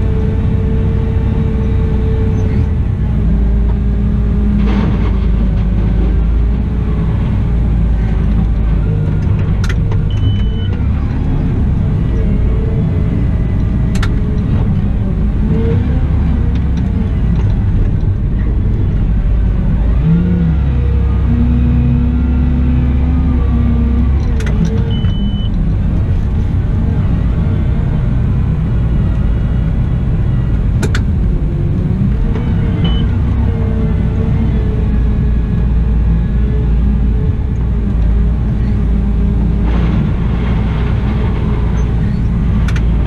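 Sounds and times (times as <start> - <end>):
wheel loader diesel engine running: 0.0 - 43.0.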